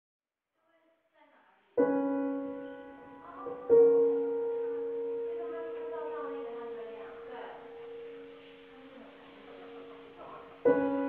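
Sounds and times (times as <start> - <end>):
faint music notes: 1.8 - 11.0
ringing music chords: 1.8 - 11.0.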